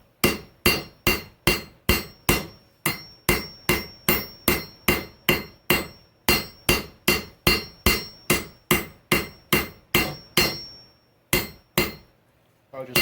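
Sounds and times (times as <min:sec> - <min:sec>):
hammer ringing on anvil: 0:00.2 - 0:12.1, 0:12.8 - 0:13.0.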